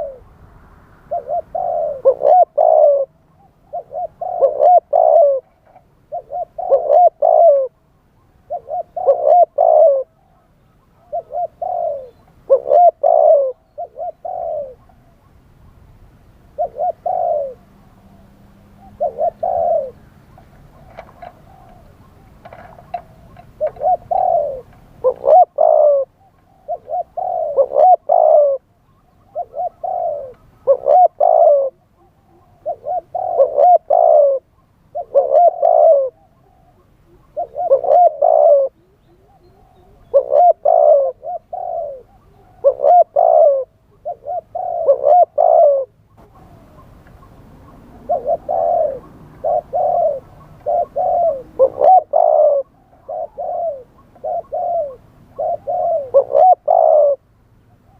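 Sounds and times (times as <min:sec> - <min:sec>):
dove cooing: 0:00.0 - 0:00.3, 0:01.0 - 0:15.4, 0:16.5 - 0:57.9.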